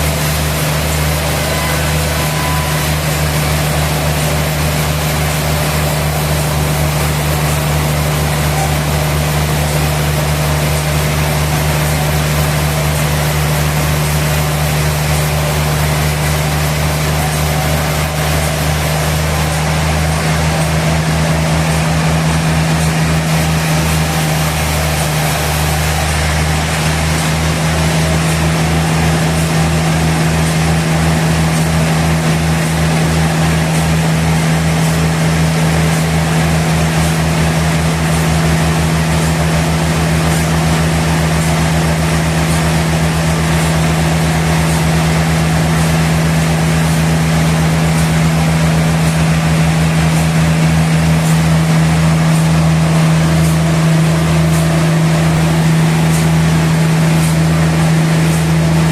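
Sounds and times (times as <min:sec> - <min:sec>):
sawmill machinery humming: 0:00.0 - 0:58.9.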